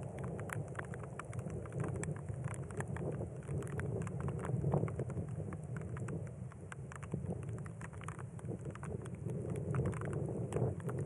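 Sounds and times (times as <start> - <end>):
low wind rumble: 0.0 - 11.0
raindrops ticking: 0.0 - 11.0.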